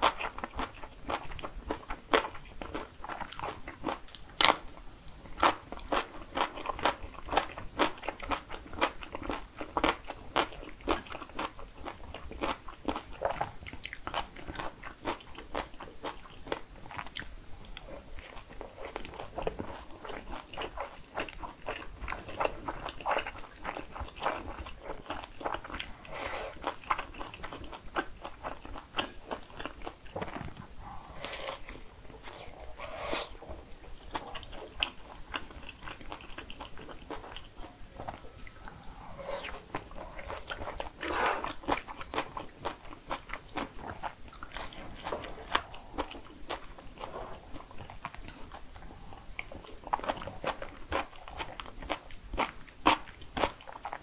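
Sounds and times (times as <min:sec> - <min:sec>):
person chewing crunchy food: 0:00.0 - 0:04.7, 0:05.3 - 0:54.0.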